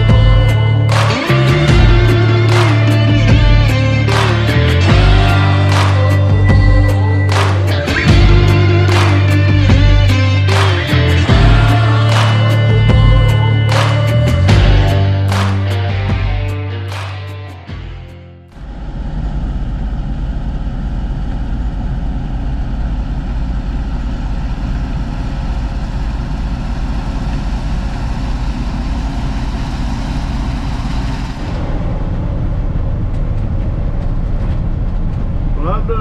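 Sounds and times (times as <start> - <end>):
combine harvester engine drone: 0.0 - 16.0, 18.5 - 36.0.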